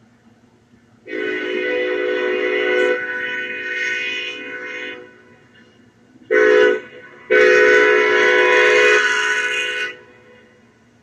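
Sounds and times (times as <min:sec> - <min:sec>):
locomotive air horn blasts: 0:01.1 - 0:10.8.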